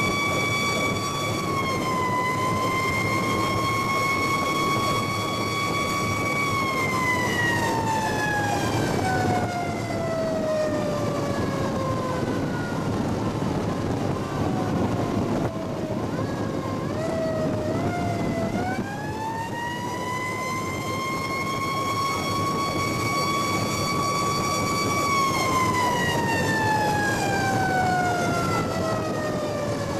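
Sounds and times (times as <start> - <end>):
engine and road noise: 0.0 - 29.9
siren wailing: 0.0 - 29.9.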